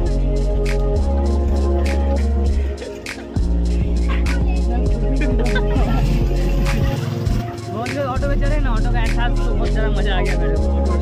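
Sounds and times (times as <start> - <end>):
music with heavy bass and beat: 0.0 - 11.0.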